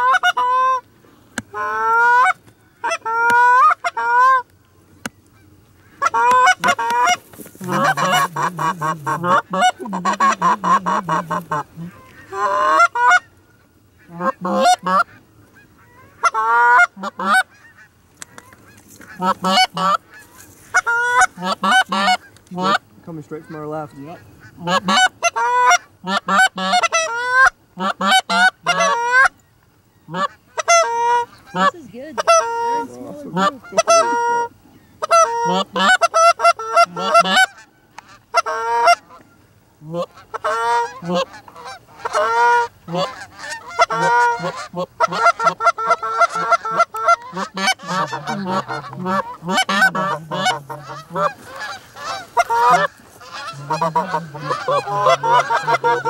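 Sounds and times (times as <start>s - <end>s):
geese honking: 0.0s - 4.5s, 5.3s - 29.4s, 30.0s - 56.0s.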